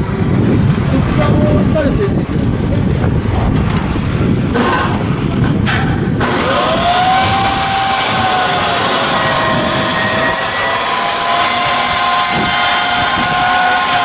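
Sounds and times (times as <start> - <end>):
loud machinery noise: 0.0 - 14.0
whining tones: 0.0 - 14.0.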